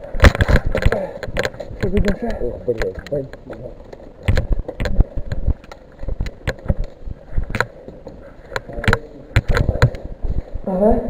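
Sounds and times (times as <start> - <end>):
footsteps: 0.0 - 10.8.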